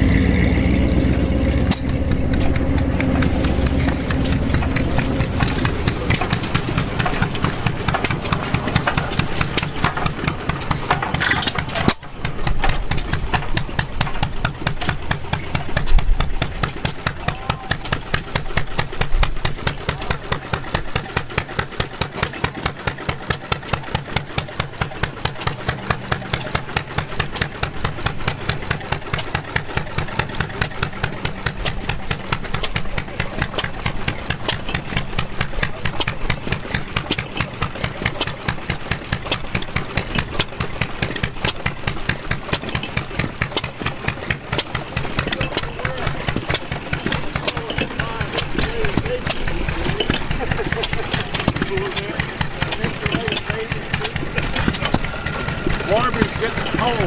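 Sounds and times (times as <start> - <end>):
engine regular exhaust beat: 0.0 - 57.0
heavy engine low drone: 0.0 - 57.0.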